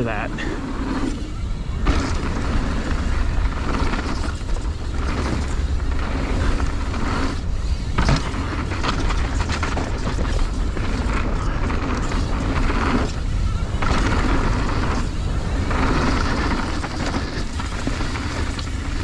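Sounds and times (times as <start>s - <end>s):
bike freehub buzzing: 0.0s - 19.0s
tyres rolling on dirt: 0.0s - 19.0s
wind rumble on microphone: 0.0s - 19.0s.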